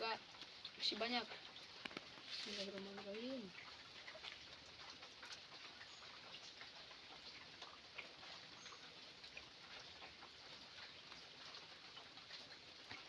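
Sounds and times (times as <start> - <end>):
faint outdoor hiss: 0.0 - 13.0
small ticks: 0.3 - 13.0.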